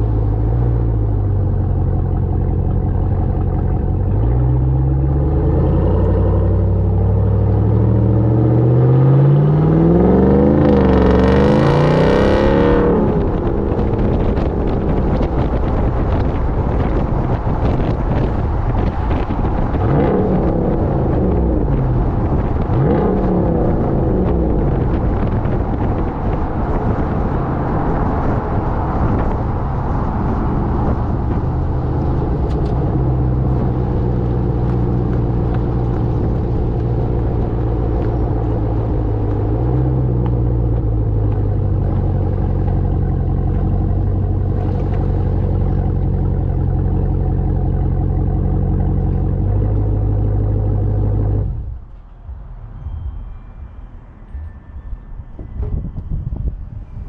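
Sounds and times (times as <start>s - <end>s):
truck engine exhaust drone: 0.0s - 57.0s.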